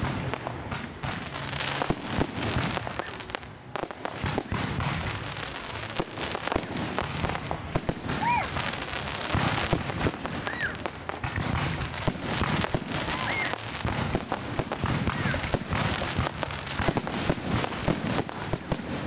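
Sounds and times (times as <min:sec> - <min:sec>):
firework whistles: 0:00.0 - 0:19.0
fireworks bangs and crackling: 0:00.0 - 0:19.0.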